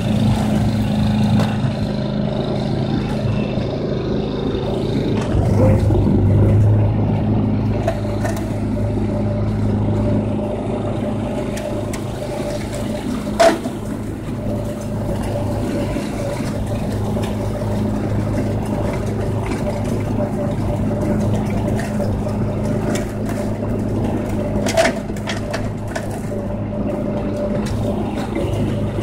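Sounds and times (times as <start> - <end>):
mower engine running: 0.0 - 29.0.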